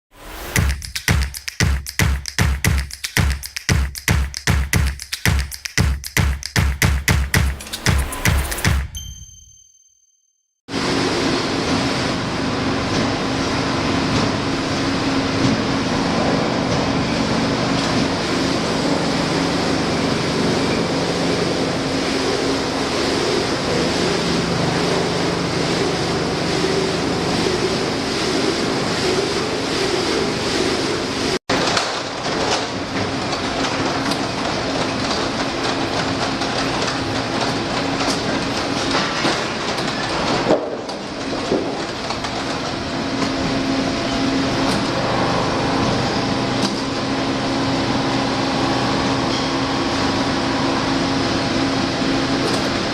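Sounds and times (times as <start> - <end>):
machinery humming and clattering: 0.2 - 9.0, 10.8 - 52.9.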